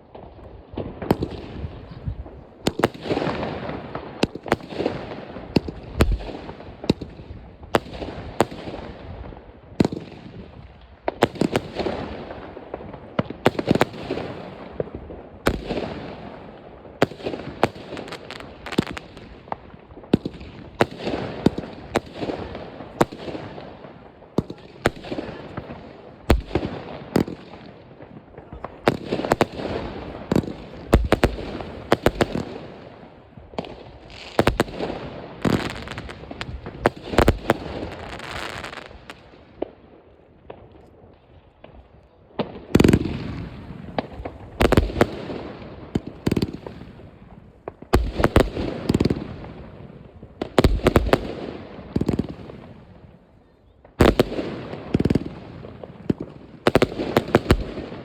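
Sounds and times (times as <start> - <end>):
fireworks bursting with bangs: 0.0 - 39.8, 40.4 - 58.0
fireworks crackling: 0.0 - 53.2, 53.9 - 58.0.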